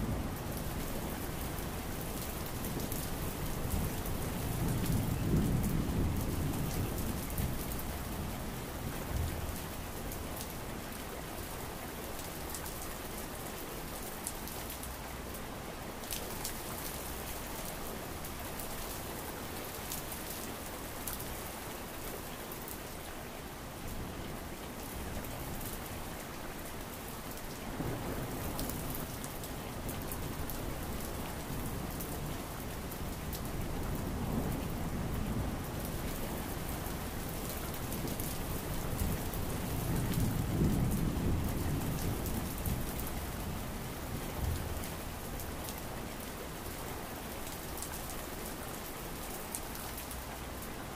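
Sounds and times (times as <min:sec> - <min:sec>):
rain patter: 0:00.0 - 0:50.9.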